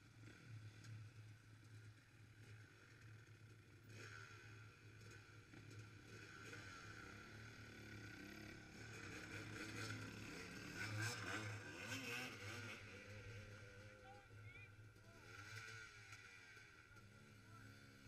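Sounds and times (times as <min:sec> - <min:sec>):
dirt bike engines idling and revving: 0:00.0 - 0:18.0.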